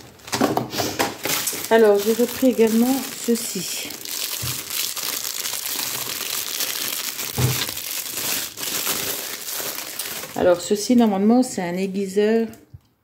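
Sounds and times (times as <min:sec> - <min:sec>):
packaging crinkling: 0:00.0 - 0:11.2.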